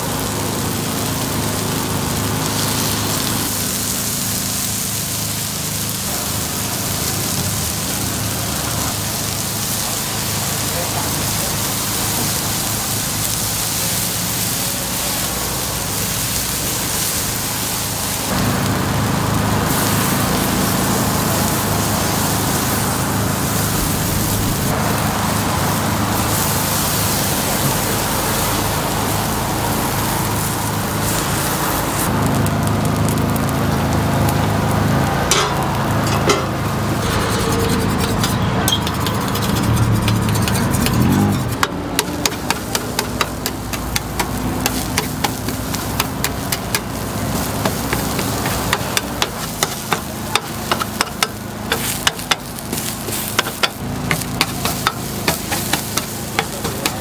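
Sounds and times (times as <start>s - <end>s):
batter sizzling on griddle: 0.0s - 57.0s.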